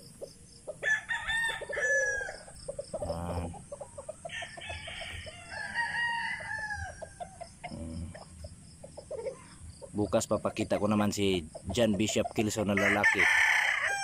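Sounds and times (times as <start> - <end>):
rooster clucks: 0.0 - 14.0
roosters crowing: 0.7 - 11.1, 11.7 - 14.0.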